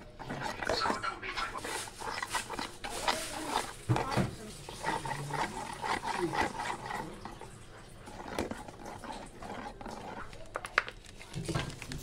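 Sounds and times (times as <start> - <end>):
spoon stirring sticky paste: 0.0 - 12.0.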